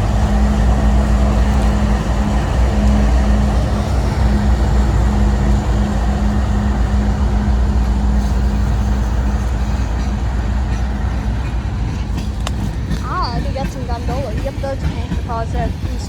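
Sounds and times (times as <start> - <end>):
freight train passing: 0.0 - 16.0.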